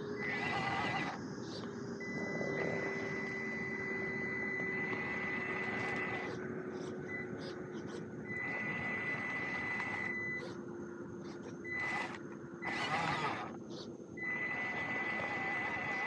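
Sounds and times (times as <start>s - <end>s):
toy car electric motor whine: 0.0s - 10.6s, 11.4s - 13.6s, 14.2s - 16.0s.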